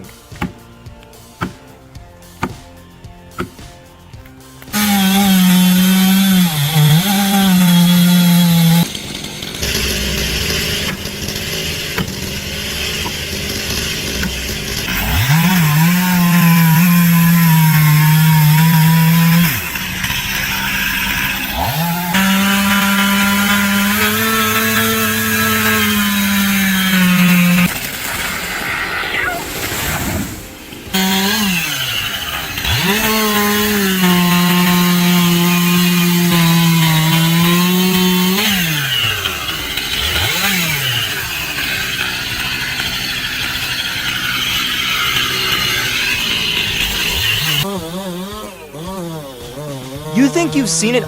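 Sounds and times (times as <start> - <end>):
chainsaw engine revving: 0.0 - 51.0.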